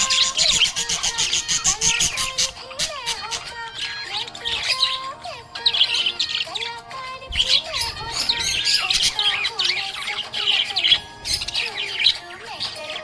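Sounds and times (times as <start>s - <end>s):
background music: 0.0s - 13.0s
budgerigars chirping and warbling: 0.0s - 13.0s.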